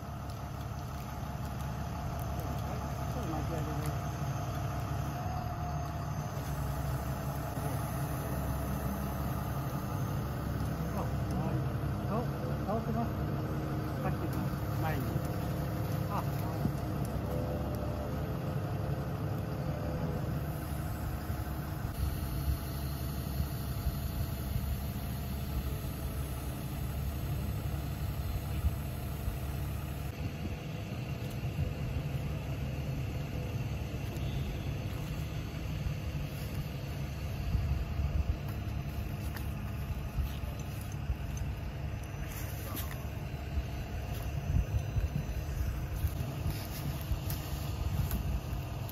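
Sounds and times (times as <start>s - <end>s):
diesel engine rumbling at low revs: 0.0s - 48.9s.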